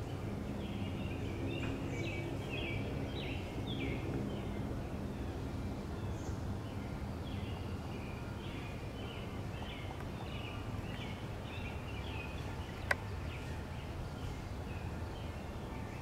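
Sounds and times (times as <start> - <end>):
birds chirping: 0.0 - 16.0
low outdoor rumble: 0.0 - 16.0.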